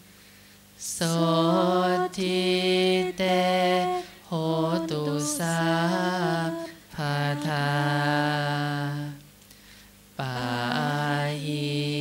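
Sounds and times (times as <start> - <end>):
voices chanting slowly: 0.8 - 9.3, 10.2 - 12.0.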